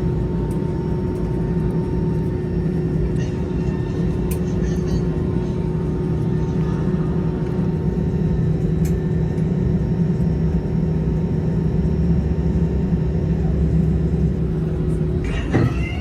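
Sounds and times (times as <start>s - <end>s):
aircraft cabin drone: 0.0s - 16.0s
idling jet engines hum: 0.0s - 16.0s.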